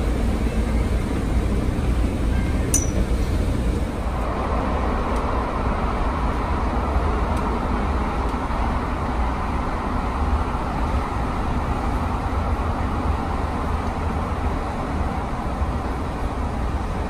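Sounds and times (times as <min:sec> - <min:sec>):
train rumbling in a tunnel: 0:00.0 - 0:17.0.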